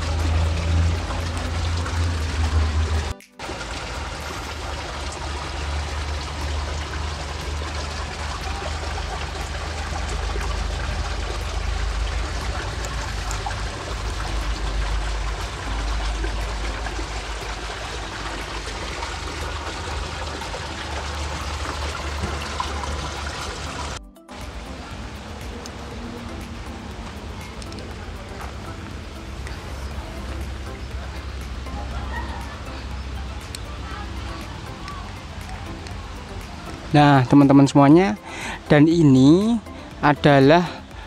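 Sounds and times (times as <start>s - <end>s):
water pouring into a pond: 0.0s - 41.0s.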